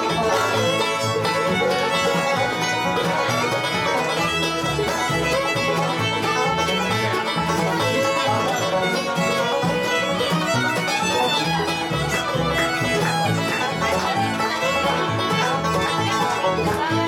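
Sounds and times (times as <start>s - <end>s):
bluegrass band playing: 0.0s - 17.0s
fiddle solo: 0.0s - 17.0s.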